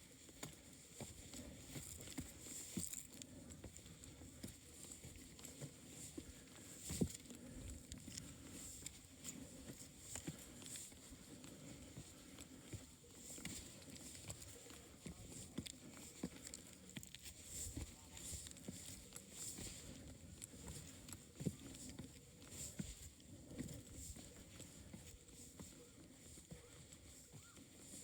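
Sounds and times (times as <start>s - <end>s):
footsteps on rocky trail: 0.0s - 28.0s.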